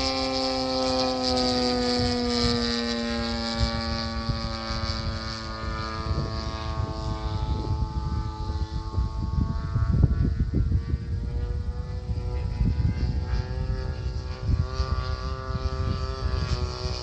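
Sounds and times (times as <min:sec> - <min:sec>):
model plane motor droning: 0:00.0 - 0:17.0
wind rumble on microphone: 0:00.0 - 0:17.0.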